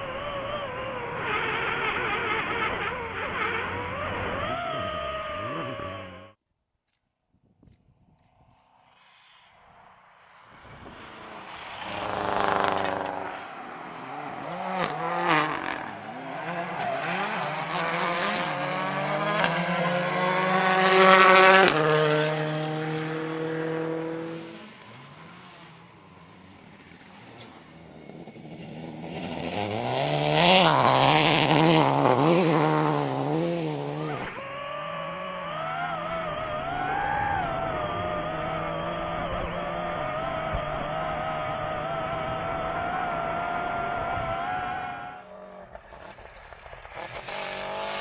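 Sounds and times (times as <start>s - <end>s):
rally car engine revving: 0.0s - 6.4s, 9.2s - 48.0s.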